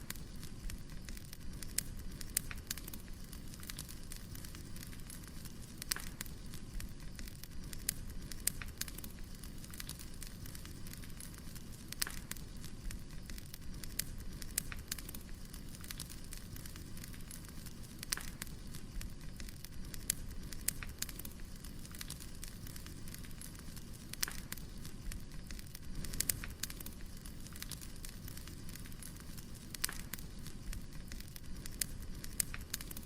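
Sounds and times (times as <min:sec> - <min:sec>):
burning logs crackling and popping: 0:00.0 - 0:33.0
low rumble of flame: 0:00.0 - 0:33.0.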